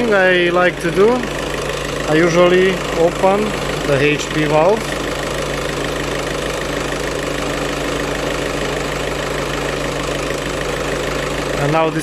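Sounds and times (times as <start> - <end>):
air conditioning compressor running: 0.0 - 12.0
car engine idling: 0.0 - 12.0.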